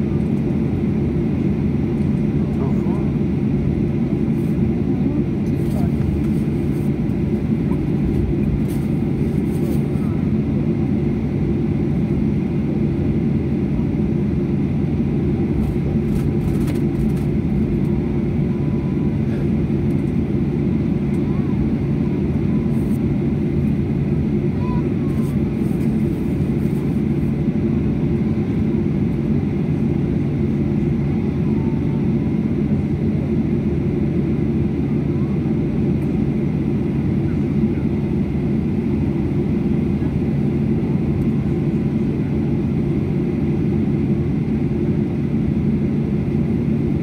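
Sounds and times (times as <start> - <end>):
aircraft engines humming: 0.0 - 47.0.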